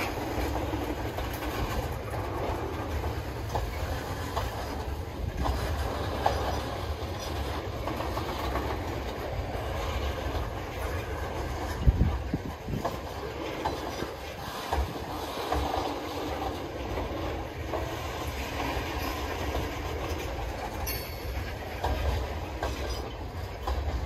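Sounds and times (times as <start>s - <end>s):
freight train rumbling: 0.0s - 24.0s
wheels squeaking on rails: 0.0s - 24.0s.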